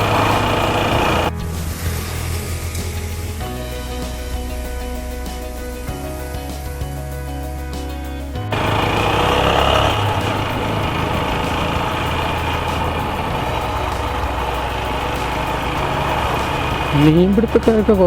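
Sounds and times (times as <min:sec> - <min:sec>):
background music with held notes: 0:00.0 - 0:18.0
motorcycle running: 0:00.0 - 0:18.0.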